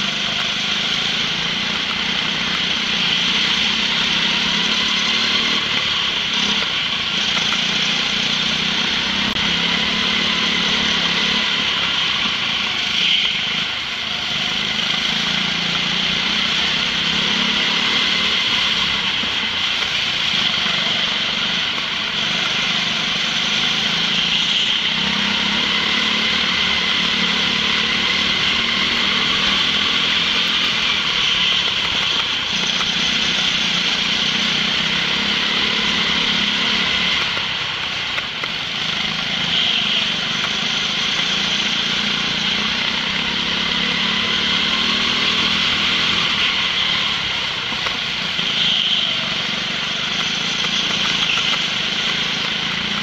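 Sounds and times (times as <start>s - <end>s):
go-kart engine buzzing: 0.0s - 53.0s.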